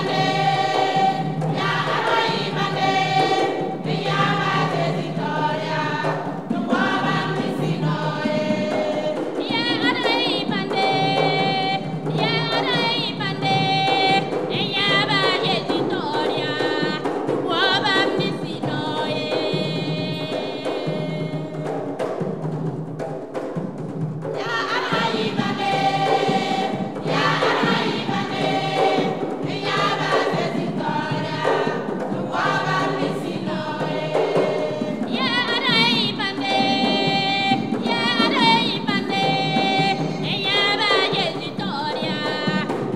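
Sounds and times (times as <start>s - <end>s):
women's choir singing: 0.0s - 22.0s, 24.4s - 42.9s
box drums: 0.0s - 42.9s.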